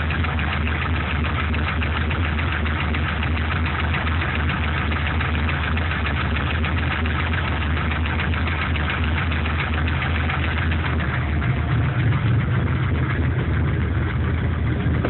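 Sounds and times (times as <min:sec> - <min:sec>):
engine idling low hum: 0:00.0 - 0:15.0
fast even engine ticking: 0:00.0 - 0:15.0.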